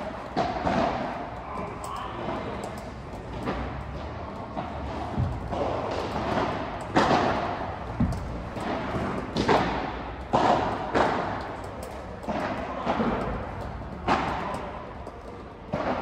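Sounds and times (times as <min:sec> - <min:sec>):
ball hitting rackets and walls: 0:00.0 - 0:16.0.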